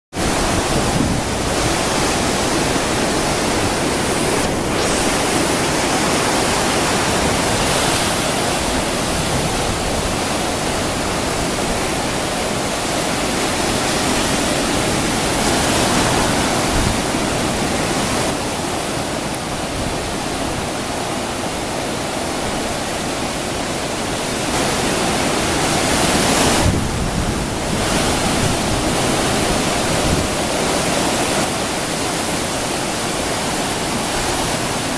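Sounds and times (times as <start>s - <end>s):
sea surf breaking on shore: 0.1s - 34.9s.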